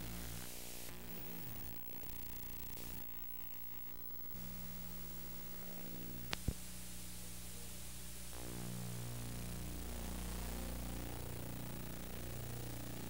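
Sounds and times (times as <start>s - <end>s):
steady low hum: 0.0s - 13.0s
videotape static hiss: 0.0s - 13.0s.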